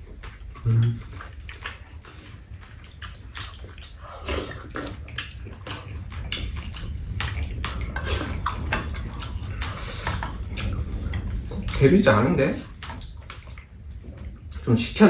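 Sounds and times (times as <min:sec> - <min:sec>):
chewing: 0:00.0 - 0:14.9
steady low hum: 0:00.0 - 0:15.0.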